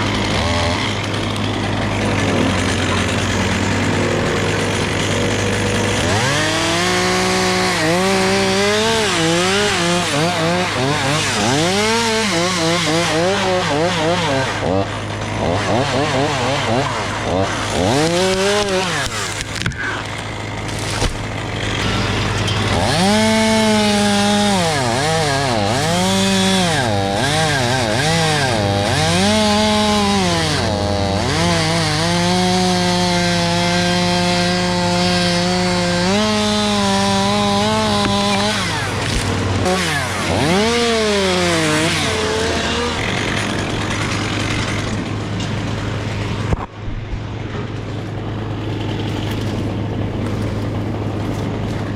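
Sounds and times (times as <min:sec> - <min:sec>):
chainsaw revving: 0:00.0 - 0:46.7, 0:47.3 - 0:51.9.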